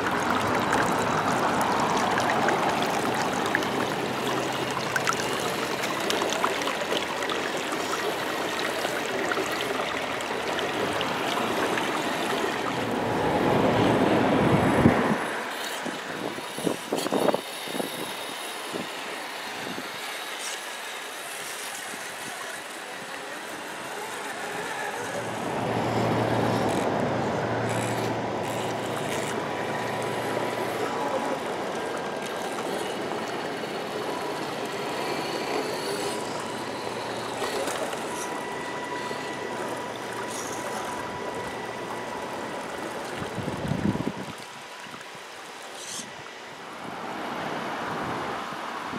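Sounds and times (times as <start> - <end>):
electric motor whine: 0.0 - 48.6
running water: 0.0 - 48.9.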